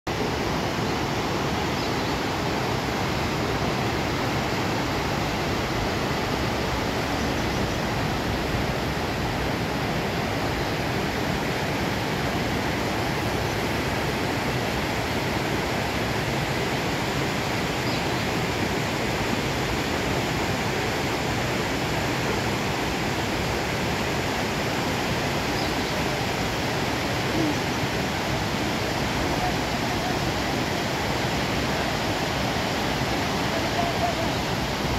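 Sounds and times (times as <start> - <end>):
river rushing over boulders: 0.1 - 34.9.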